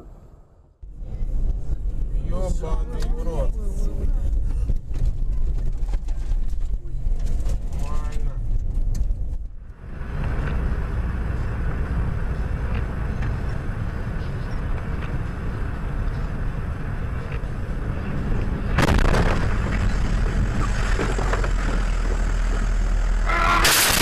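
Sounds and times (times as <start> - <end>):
vehicle rumbling on snowy road: 0.0 - 24.0.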